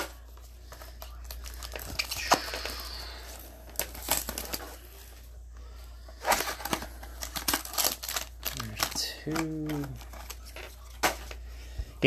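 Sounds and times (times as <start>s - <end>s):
foil and card crinkling: 0.0s - 11.5s.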